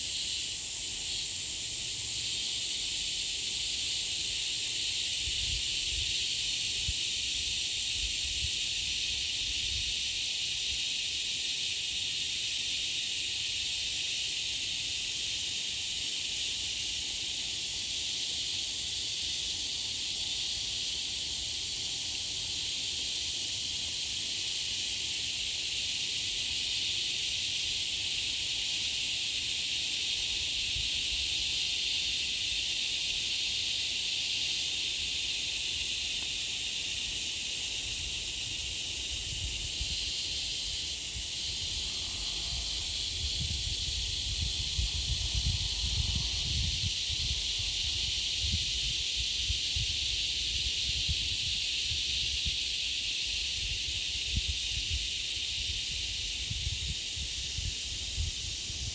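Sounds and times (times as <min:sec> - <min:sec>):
high-pitched insect chorus: 0:00.0 - 0:58.9
pulsing insect call: 0:00.0 - 0:58.9.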